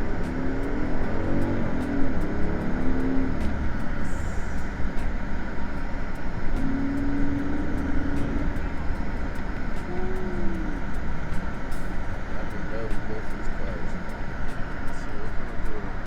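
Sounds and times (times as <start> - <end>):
vehicle rumble: 0.0 - 16.0.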